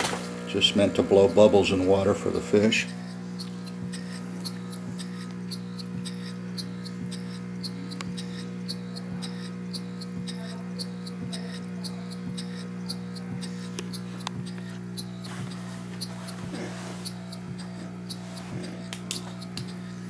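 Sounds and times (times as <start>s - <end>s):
air pump humming: 0.0s - 20.0s
model steam engine ticking: 0.2s - 20.0s.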